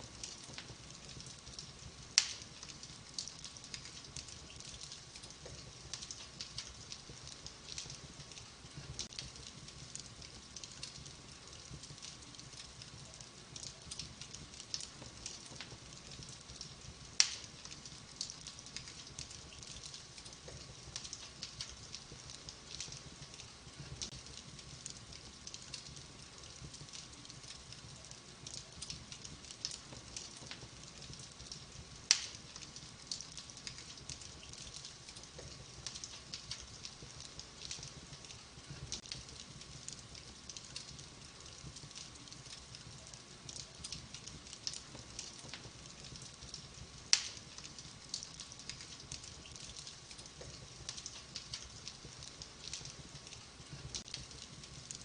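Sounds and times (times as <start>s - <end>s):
wood fire crackling: 0.0s - 55.0s
loud fire pops: 0.1s - 27.7s, 28.4s - 55.0s.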